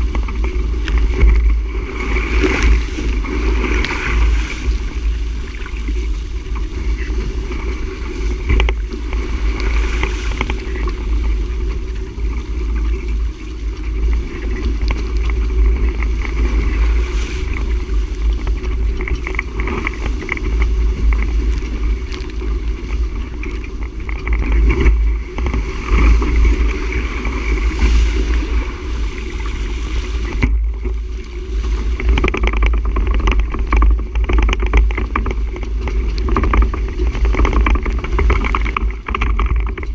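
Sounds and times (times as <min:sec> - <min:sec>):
water rushing along boat hull: 0:00.0 - 0:39.9
wind buffeting microphone: 0:00.0 - 0:39.9.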